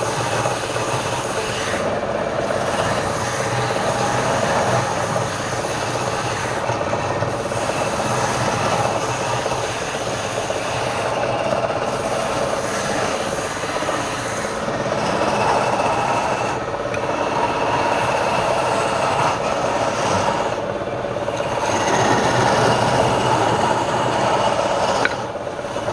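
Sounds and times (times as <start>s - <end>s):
lathe whirring and whining: 0.0s - 25.9s.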